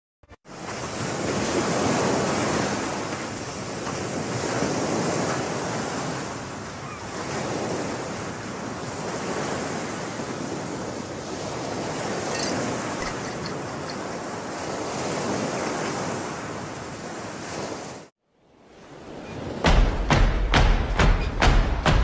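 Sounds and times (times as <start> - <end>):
ocean surf on a beach: 0.4 - 22.0.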